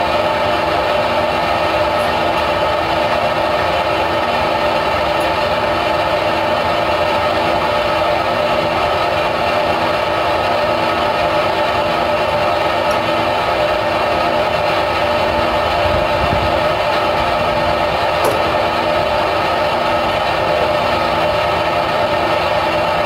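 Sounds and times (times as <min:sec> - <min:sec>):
machine droning: 0:00.0 - 0:23.0.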